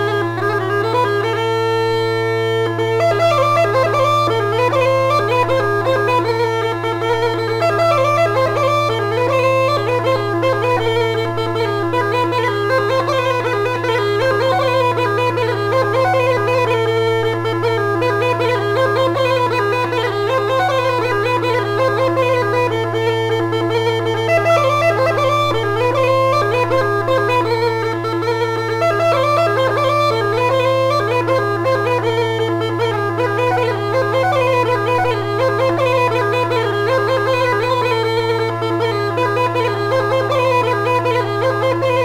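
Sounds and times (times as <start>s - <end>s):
bagpipe drone: 0.0s - 42.0s
bagpipe folk melody: 0.0s - 42.0s.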